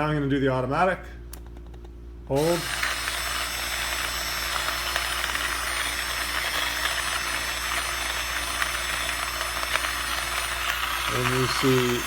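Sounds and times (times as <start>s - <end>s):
coffee grinder whirring: 2.3s - 12.0s.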